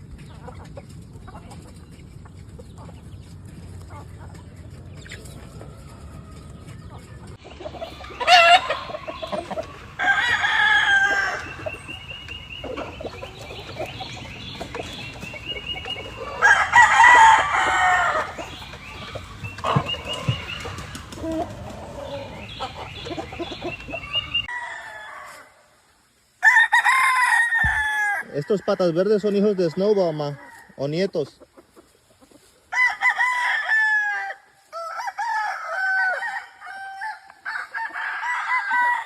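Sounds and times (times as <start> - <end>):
chickens clucking: 0.0 - 26.4, 27.6 - 32.7
roosters crowing: 2.8 - 25.8, 26.4 - 31.2, 32.5 - 39.0.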